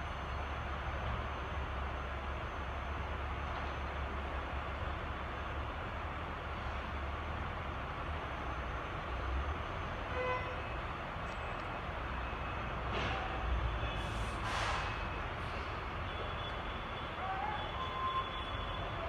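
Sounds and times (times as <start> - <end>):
distant trucks rumbling: 0.0 - 19.0.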